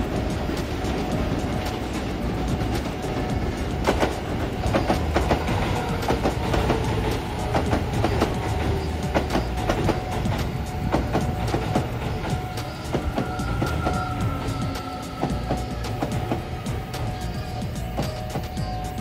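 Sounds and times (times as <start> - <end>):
train low rumble: 0.0 - 19.0
train wheels clacking over rail joints: 0.0 - 19.0.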